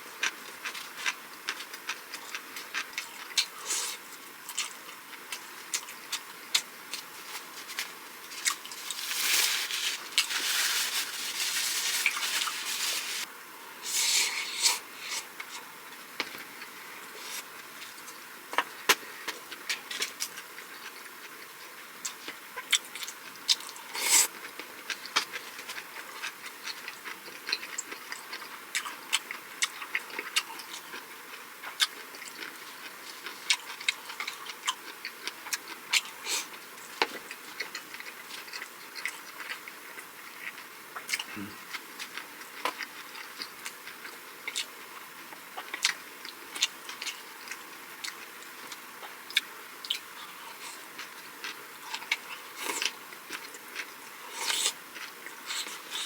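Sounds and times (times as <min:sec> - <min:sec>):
food being chewed: 0:00.2 - 0:13.3, 0:14.3 - 0:56.0.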